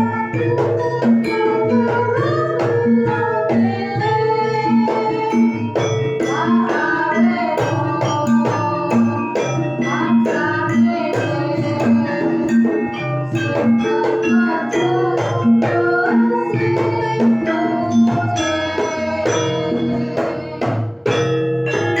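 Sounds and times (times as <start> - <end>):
drum strokes: 0.0 - 22.0
gamelan ensemble playing: 0.0 - 22.0.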